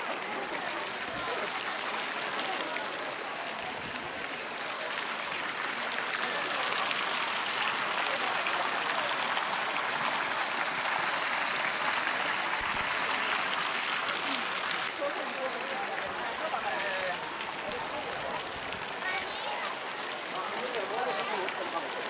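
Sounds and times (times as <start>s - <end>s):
people's voices: 0.0s - 11.1s, 14.1s - 22.0s
water jets splashing into pond: 0.0s - 22.0s.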